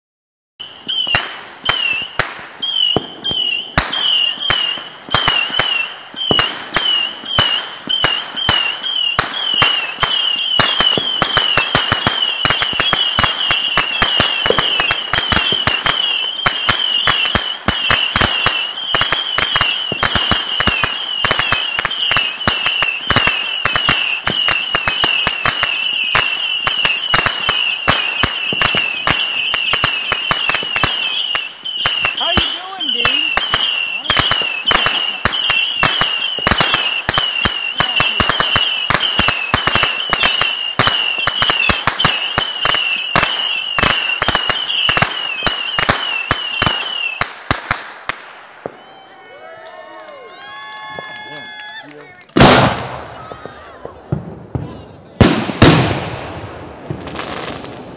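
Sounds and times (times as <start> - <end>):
firework whistle: 0.6 - 51.8
firework pops and crackles: 0.6 - 57.9.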